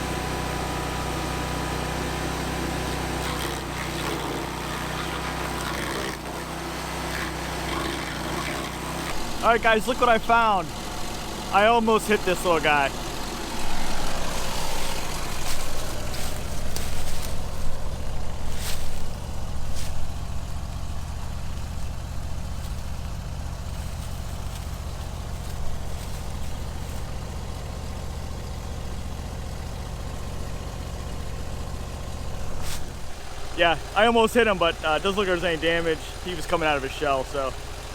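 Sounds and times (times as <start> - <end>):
stump grinder engine running: 0.0 - 37.9.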